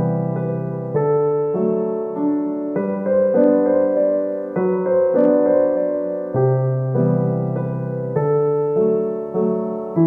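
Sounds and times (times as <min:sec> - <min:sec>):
slow keyboard chords: 0:00.0 - 0:10.0.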